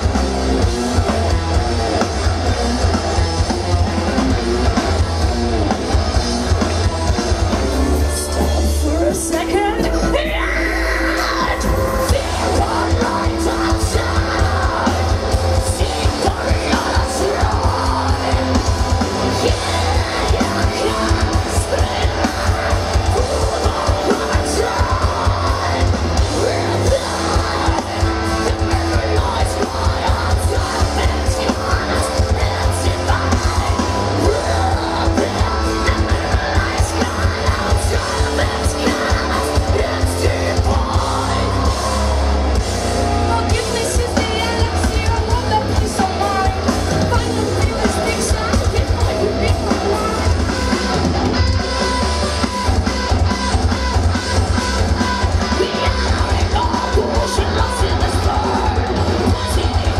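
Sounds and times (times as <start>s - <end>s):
distorted guitars: 0.0s - 59.9s.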